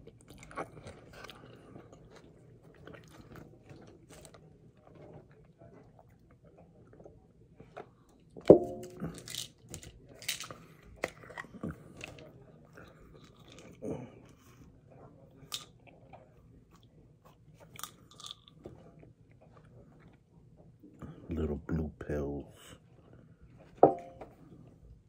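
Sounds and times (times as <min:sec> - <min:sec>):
chewing and crunching food: 0:00.0 - 0:21.5.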